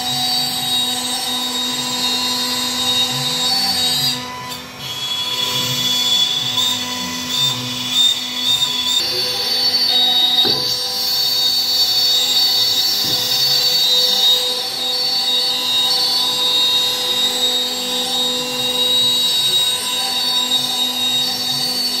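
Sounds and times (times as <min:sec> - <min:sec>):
bit rasping through wood: 0:00.0 - 0:22.0
router spindle high-pitched whine: 0:00.0 - 0:22.0.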